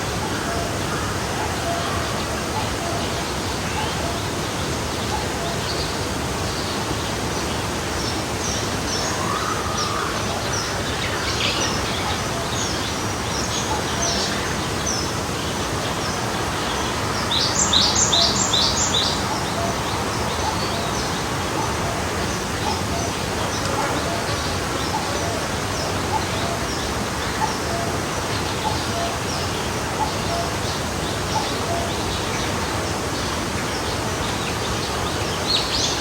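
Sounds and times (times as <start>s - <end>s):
stream flowing: 0.0s - 36.0s.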